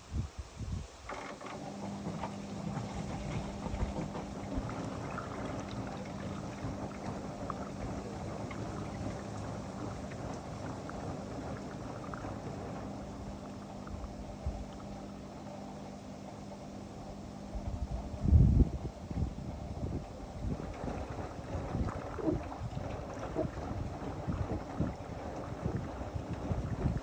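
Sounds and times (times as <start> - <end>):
water sloshing in washing machine: 1.1 - 27.0
low motor hum: 1.4 - 27.0.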